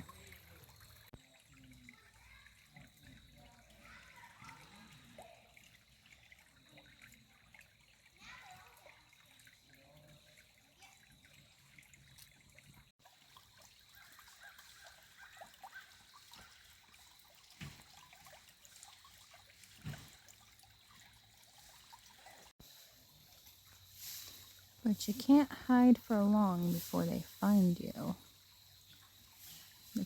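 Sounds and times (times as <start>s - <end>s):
creek water trickling over rocks: 0.0s - 30.0s.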